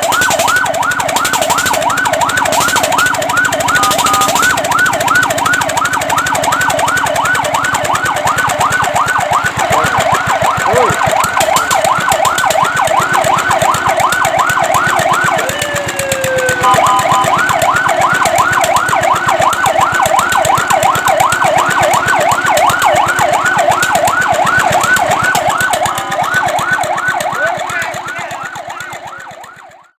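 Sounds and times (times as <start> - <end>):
fire truck siren yelping: 0.0 - 30.0.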